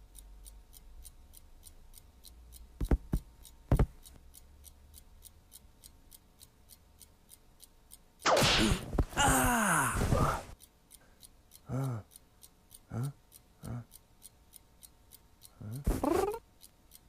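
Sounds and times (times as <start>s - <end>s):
clock ticking quickly: 0.0s - 9.6s, 10.5s - 17.0s.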